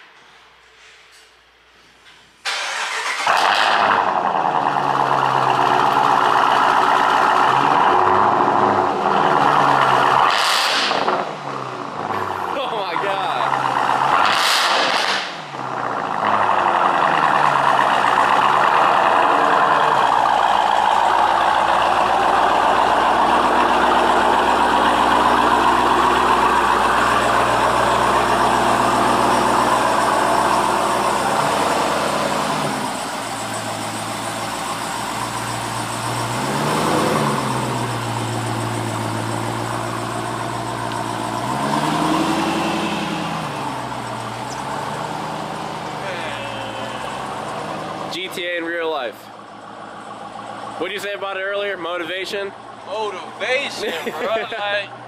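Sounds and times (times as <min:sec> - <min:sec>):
car engine idling and revving: 0:02.5 - 0:55.0.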